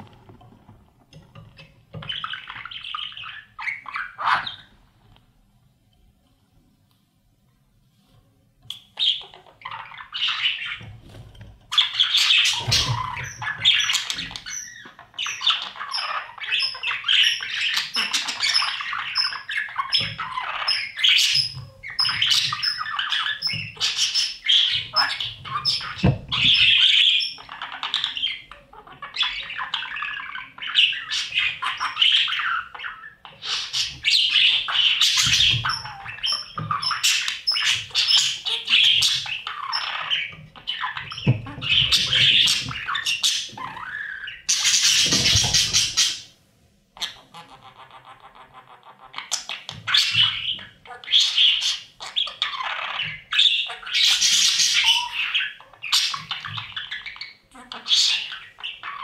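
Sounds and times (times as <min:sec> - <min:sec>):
budgerigars squawking and chirping: 0:01.9 - 0:04.8, 0:08.7 - 0:46.4, 0:47.0 - 0:59.0.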